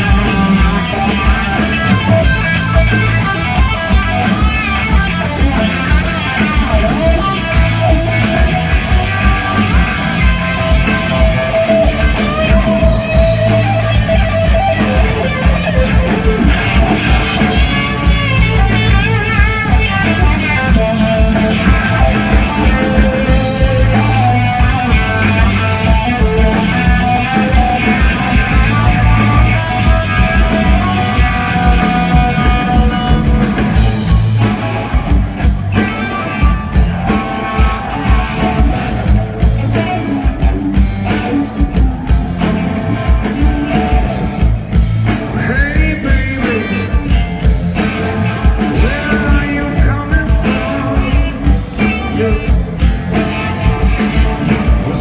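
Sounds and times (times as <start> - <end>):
bass guitar: 0.0 - 55.0
electric guitar bending notes: 0.0 - 55.0
steady drum beat: 0.0 - 55.0.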